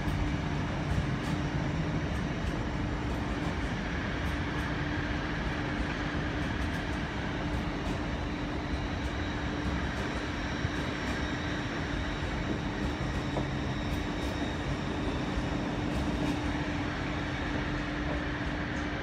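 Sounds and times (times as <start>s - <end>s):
constant low hum: 0.0s - 19.0s
train wheels rolling: 0.0s - 19.0s.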